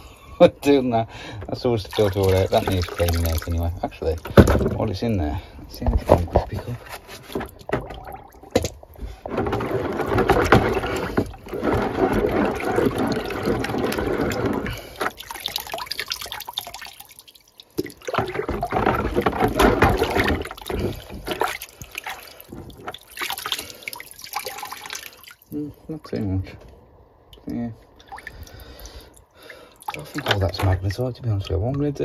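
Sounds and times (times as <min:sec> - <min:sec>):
water sloshing in a bucket: 0:00.6 - 0:32.0.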